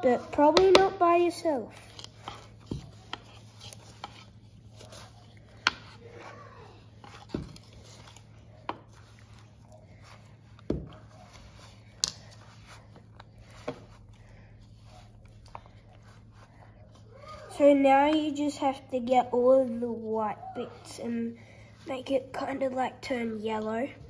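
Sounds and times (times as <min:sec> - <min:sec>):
hands kneading dough in a bowl: 0:00.0 - 0:24.0.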